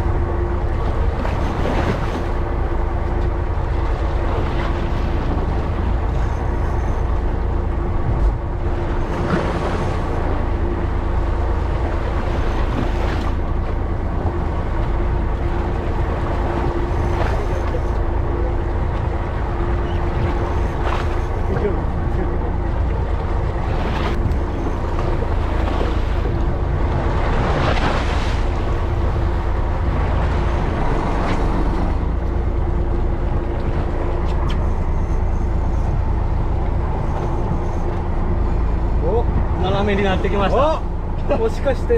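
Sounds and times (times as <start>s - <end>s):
boat engine rumbling: 0.0s - 41.9s
water splashes: 0.0s - 41.9s
wind and water: 0.0s - 41.9s.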